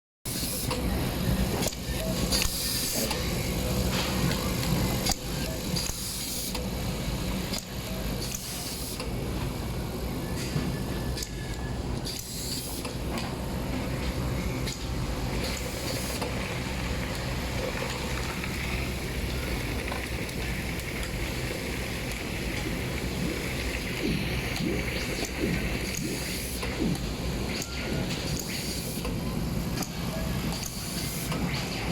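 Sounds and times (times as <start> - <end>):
factory hum: 0.3 - 31.9.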